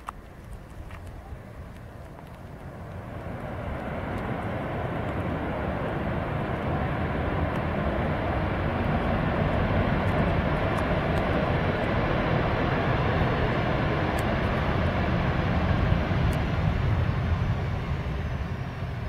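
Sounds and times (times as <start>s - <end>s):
jet engines rushing: 0.0s - 19.0s.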